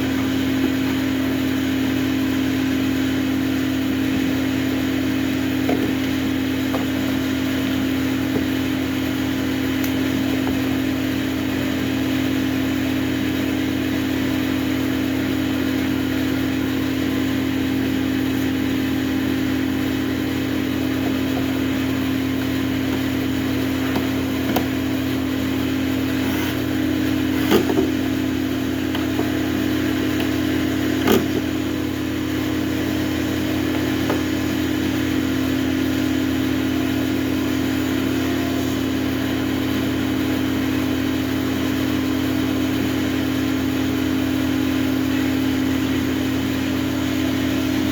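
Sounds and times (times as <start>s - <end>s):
motor humming: 0.0s - 40.4s.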